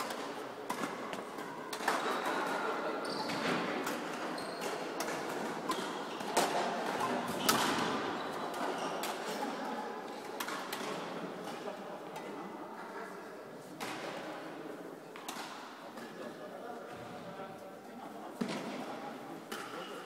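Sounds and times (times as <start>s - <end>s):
murmur of background voices: 0.0s - 20.0s.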